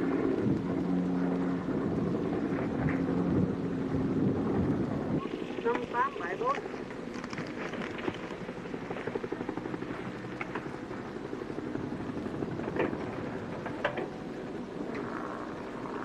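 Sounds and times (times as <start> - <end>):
helicopter rotor beating: 0.0 - 16.0.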